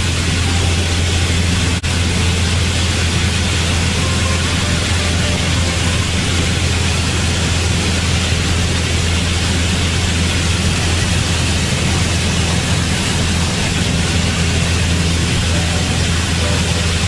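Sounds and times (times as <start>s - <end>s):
aircraft engine and propeller drone: 0.0s - 17.0s
airflow hiss: 0.0s - 17.0s.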